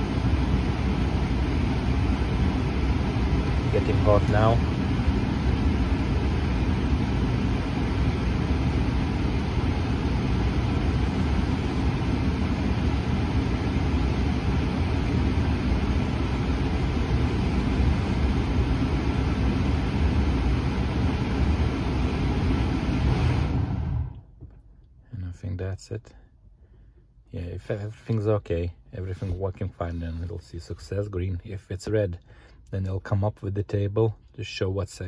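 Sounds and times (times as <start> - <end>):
car ventilation blower rushing air: 0.0 - 32.7.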